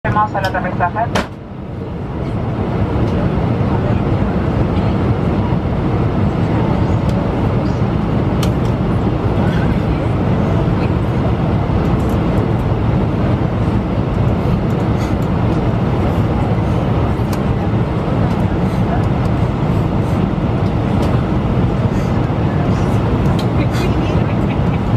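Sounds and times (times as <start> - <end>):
jet engine and airflow rumble: 0.0 - 24.9.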